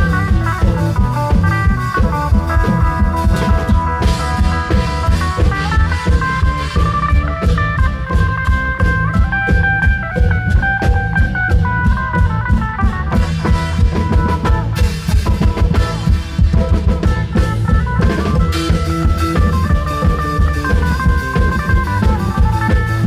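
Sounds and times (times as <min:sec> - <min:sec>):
drum ensemble playing dance rhythm: 0:00.0 - 0:23.0
stepping melody: 0:00.0 - 0:23.0.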